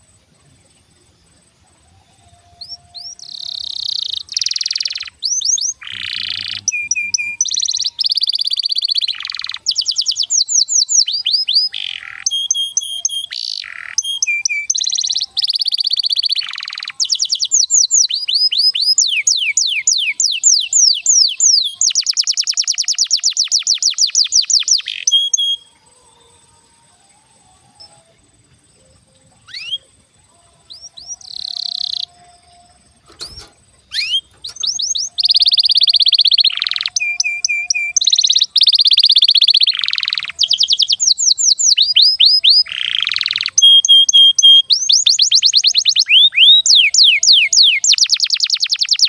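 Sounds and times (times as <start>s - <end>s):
canary singing: 1.5s - 49.0s.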